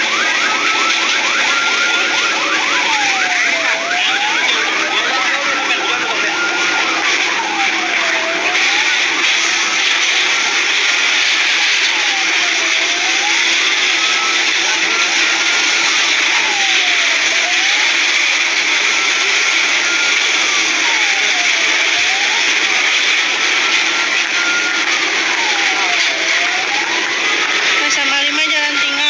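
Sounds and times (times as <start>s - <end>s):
fire engine siren wailing: 0.0s - 29.0s.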